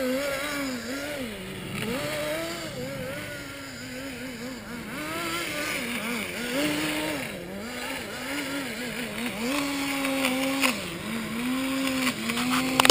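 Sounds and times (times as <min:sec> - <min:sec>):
small model engine revving: 0:00.0 - 0:12.9.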